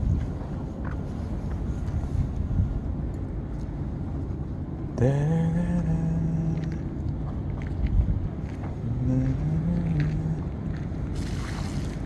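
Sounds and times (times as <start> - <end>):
wind and sea rumble: 0.0 - 12.0.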